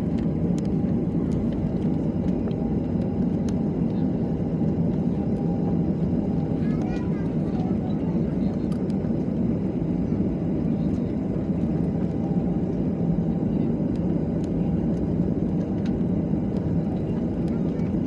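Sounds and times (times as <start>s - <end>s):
jet engine rumble in cabin: 0.0s - 18.0s.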